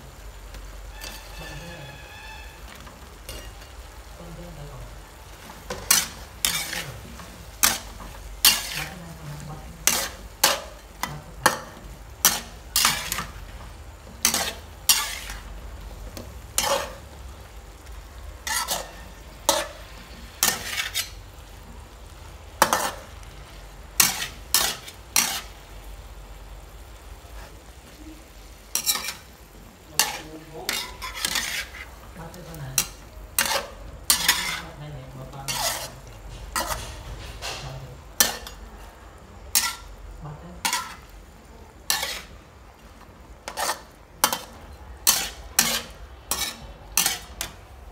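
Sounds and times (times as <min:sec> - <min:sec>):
food sizzling: 0:00.0 - 0:47.9
metal spatula scraping a wok: 0:00.6 - 0:04.1, 0:05.2 - 0:17.2, 0:17.8 - 0:21.8, 0:22.5 - 0:25.7, 0:28.4 - 0:47.9.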